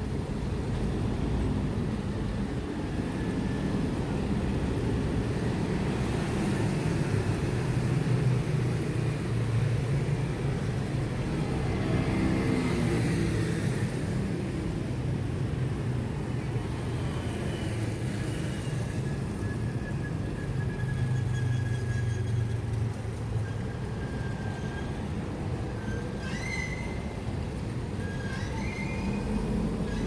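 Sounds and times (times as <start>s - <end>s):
rumble of road traffic: 0.0s - 30.0s.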